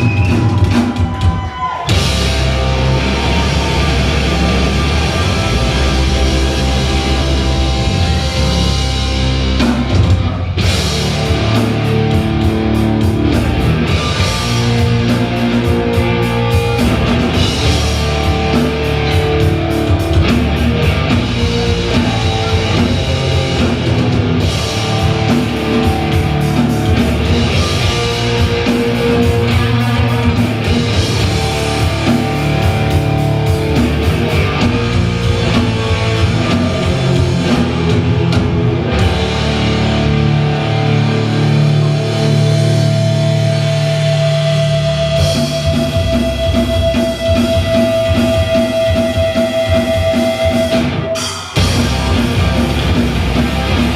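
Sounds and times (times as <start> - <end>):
bass guitar: 0.0 - 53.9
drum kit pounding: 0.0 - 53.9
electric guitars: 0.0 - 53.9.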